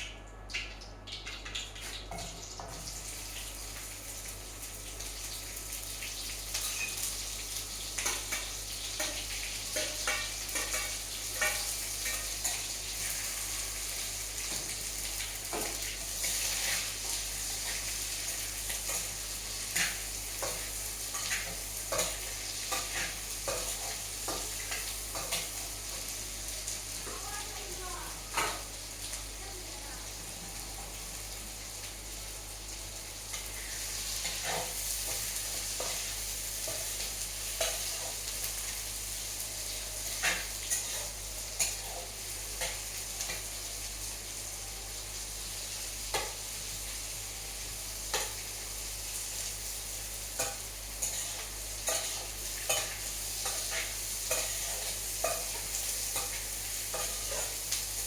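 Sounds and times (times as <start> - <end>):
food sizzling in oil: 1.1 - 58.0.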